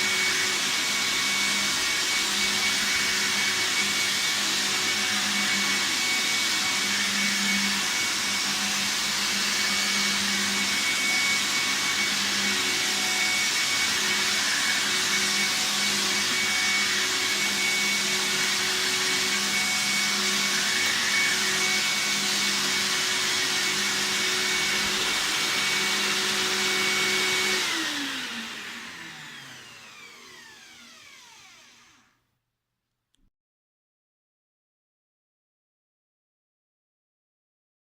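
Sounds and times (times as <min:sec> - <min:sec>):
vacuum cleaner running with high whine: 0:00.0 - 0:32.2
vacuum motor spinning down: 0:00.0 - 0:32.2.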